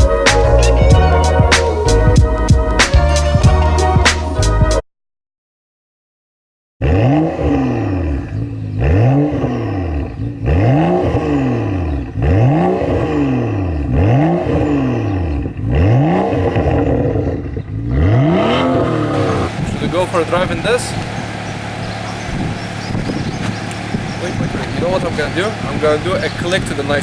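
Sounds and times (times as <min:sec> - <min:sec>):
car engine revving: 0:00.0 - 0:04.8, 0:06.8 - 0:27.0.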